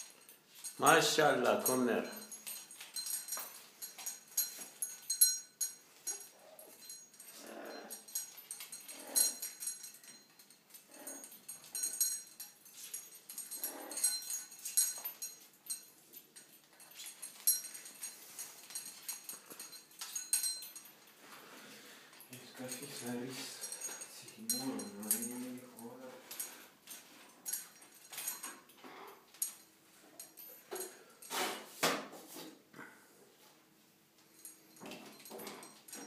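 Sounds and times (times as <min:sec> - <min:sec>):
metal rings and bell clinking: 0:00.0 - 0:31.5, 0:34.2 - 0:36.0.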